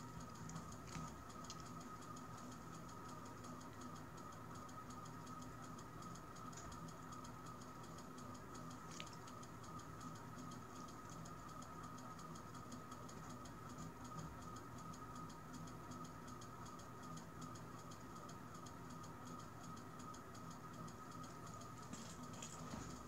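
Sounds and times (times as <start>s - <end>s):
rapid even ticking: 0.0s - 23.0s.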